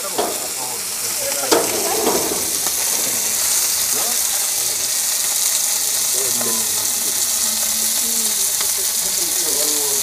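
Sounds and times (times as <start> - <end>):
meat sizzling in hot fat: 0.0 - 10.0.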